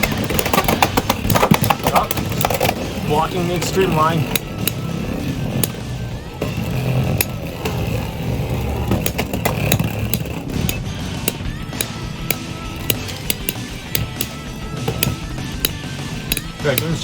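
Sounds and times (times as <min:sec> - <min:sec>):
spinning tops whirring: 0:00.0 - 0:17.0.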